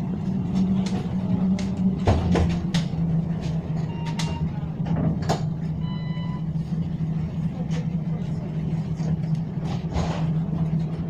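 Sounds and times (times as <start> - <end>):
tram humming: 0.0 - 11.0.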